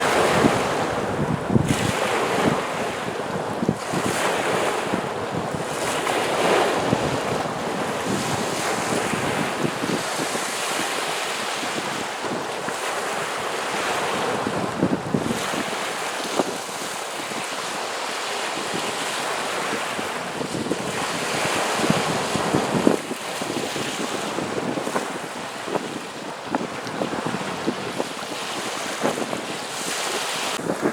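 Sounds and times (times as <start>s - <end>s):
waves washing against shore: 0.0s - 30.9s
wind buffeting microphone: 0.0s - 30.9s.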